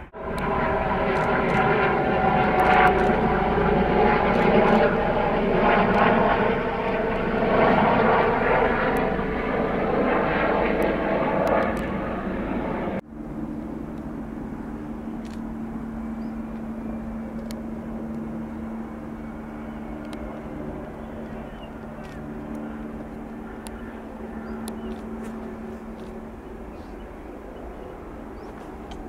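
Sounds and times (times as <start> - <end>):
distant jet engine drone: 0.0 - 29.0.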